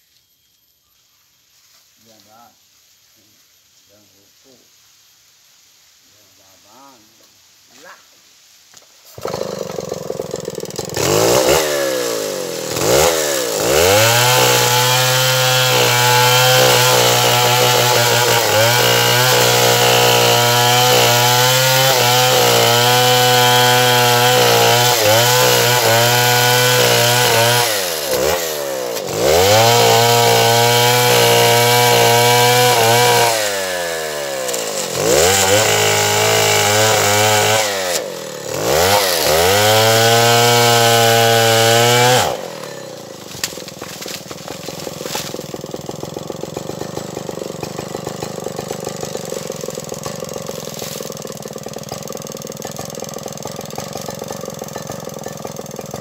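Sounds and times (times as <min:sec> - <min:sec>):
chainsaw revving: 0:09.1 - 0:56.0.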